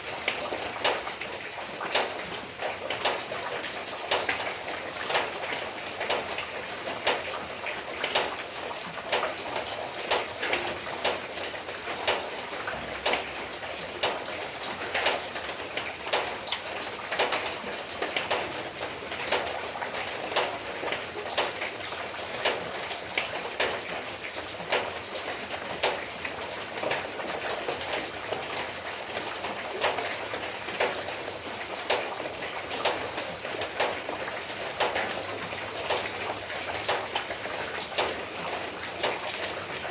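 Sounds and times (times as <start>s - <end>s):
sharp water drips: 0.2s - 39.9s.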